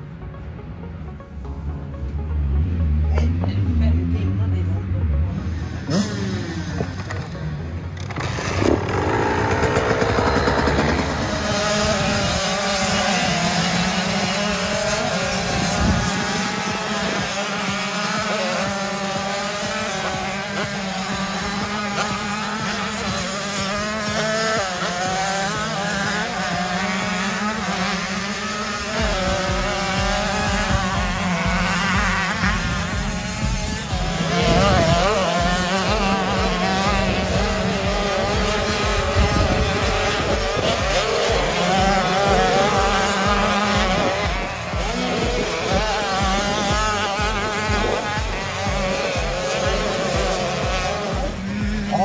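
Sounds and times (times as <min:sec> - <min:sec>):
motocross bikes revving: 0:00.0 - 0:52.0
steady low drone: 0:00.0 - 0:52.0.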